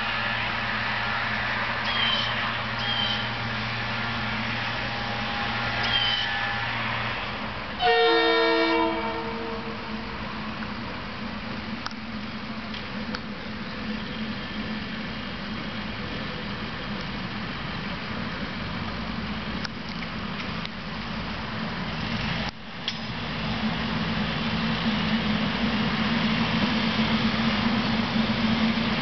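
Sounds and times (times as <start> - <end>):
electric train approaching on rails: 0.0 - 29.0.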